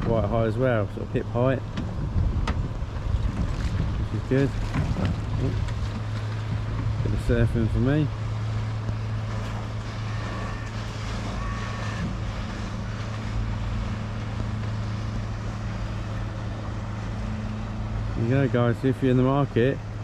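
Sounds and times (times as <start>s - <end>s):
outboard motor humming: 0.0s - 20.0s
wind and water rushing: 0.0s - 20.0s.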